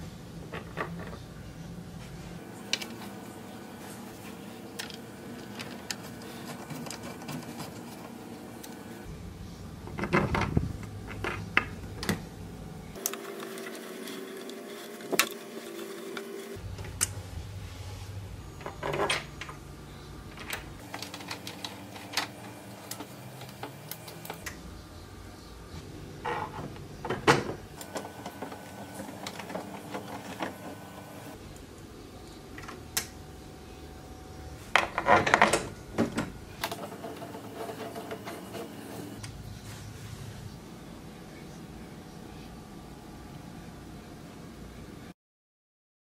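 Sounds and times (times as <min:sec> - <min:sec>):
low room hum: 0:00.0 - 0:45.2.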